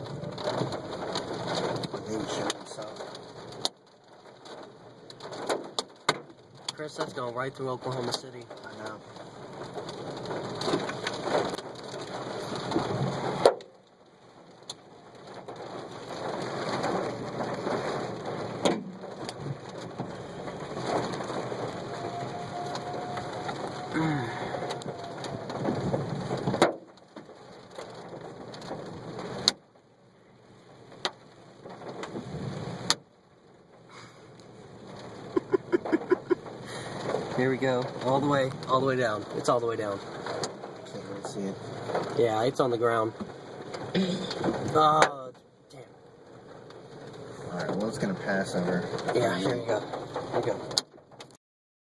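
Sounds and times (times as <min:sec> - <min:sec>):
hailstones knocking: 0:00.0 - 0:29.6, 0:30.9 - 0:33.1, 0:33.8 - 0:45.2, 0:46.0 - 0:51.3
rain hissing on car roof: 0:00.0 - 0:51.4.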